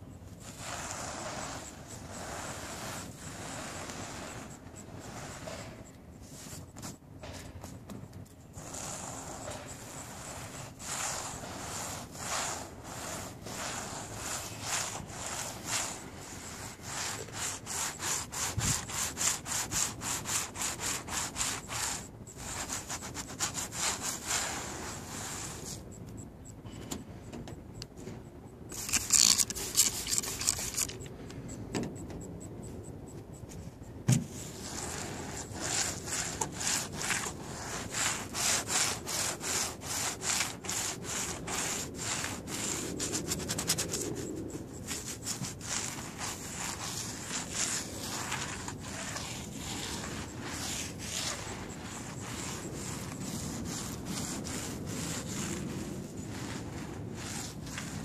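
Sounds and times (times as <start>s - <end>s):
clay towel scraping car paint: 0.0s - 25.9s, 28.7s - 31.2s, 33.6s - 58.0s.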